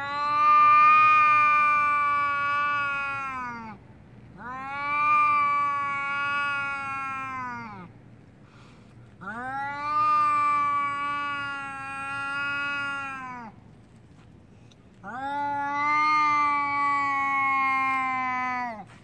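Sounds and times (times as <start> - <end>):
cat yowling: 0.0 - 3.8, 4.4 - 7.9, 9.2 - 13.5, 15.0 - 18.9.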